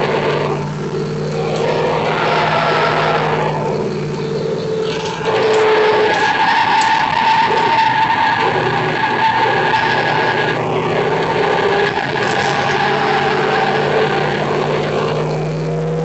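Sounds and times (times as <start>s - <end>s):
car engine under hard throttle: 0.0s - 16.0s
tyres squealing: 0.0s - 16.0s.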